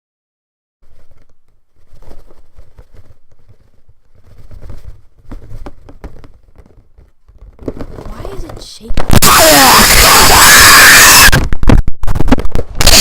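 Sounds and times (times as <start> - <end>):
harsh rumbling crackling noise: 0.8 - 13.0.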